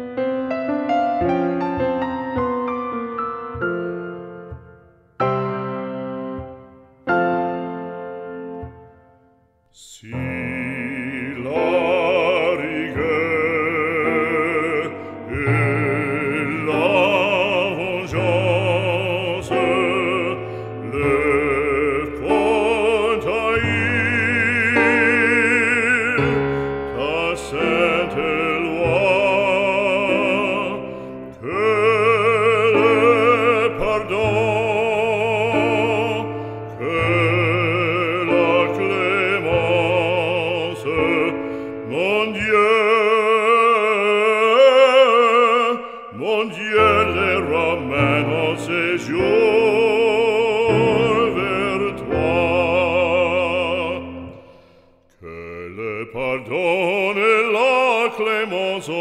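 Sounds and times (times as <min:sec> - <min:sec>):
operatic voice singing: 0:09.7 - 0:59.0.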